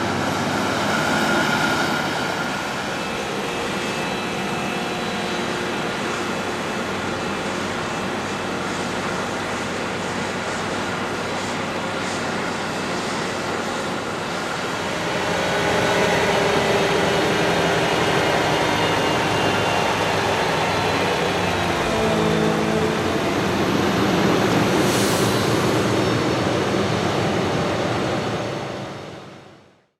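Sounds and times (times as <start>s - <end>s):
diesel farm machinery running: 0.0s - 29.7s.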